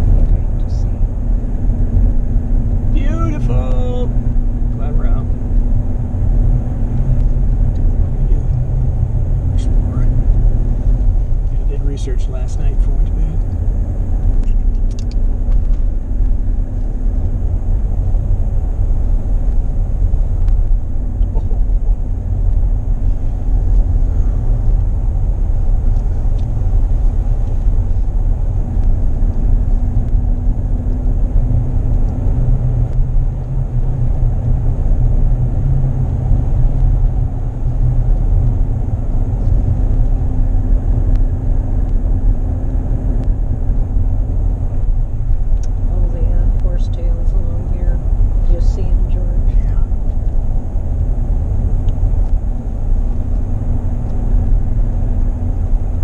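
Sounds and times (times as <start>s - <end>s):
tyre and engine rumble: 0.0s - 56.0s.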